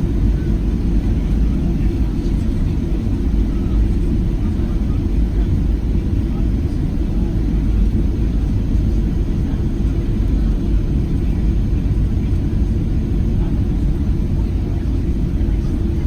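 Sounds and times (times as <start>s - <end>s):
jet engine cabin roar: 0.0s - 16.0s.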